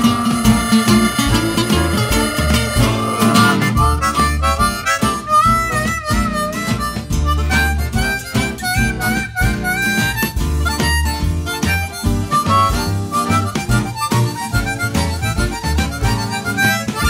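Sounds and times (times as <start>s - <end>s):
blues guitar and bass: 0.0s - 17.0s
harmonica wailing solo: 0.0s - 17.0s.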